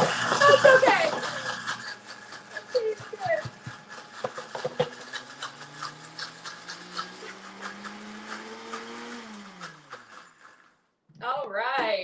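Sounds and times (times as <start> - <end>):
blender motor running: 0.0 - 10.8.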